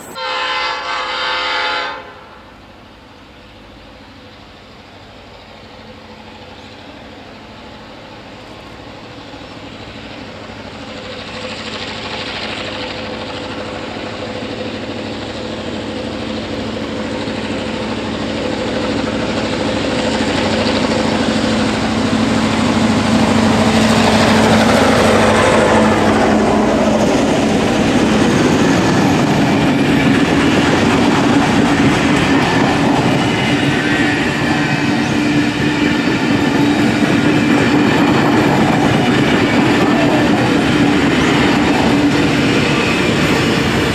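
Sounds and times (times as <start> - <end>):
locomotive engine passing: 2.4 - 43.9
train wheels clattering over rail joints: 8.4 - 43.9.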